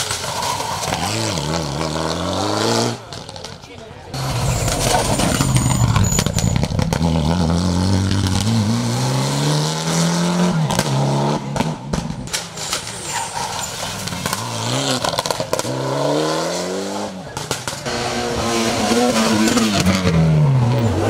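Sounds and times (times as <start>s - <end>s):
rally car accelerating hard: 0.0s - 3.5s, 4.2s - 21.0s.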